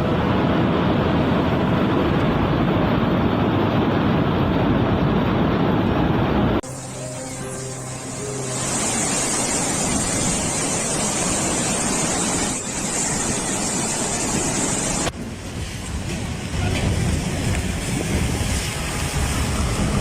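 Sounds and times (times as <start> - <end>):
loud rushing noise: 0.0 - 20.0
low rumbling noise: 0.0 - 20.0.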